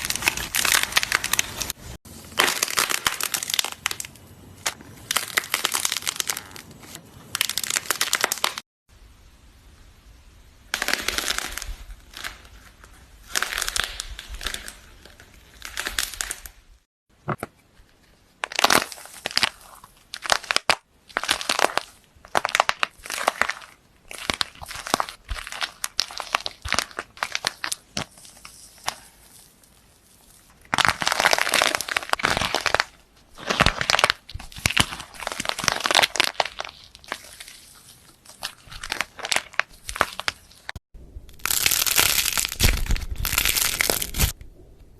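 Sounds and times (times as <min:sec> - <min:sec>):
crisp crackling and crunching: 0:00.0 - 0:08.6, 0:10.7 - 0:16.9, 0:17.8 - 0:44.4.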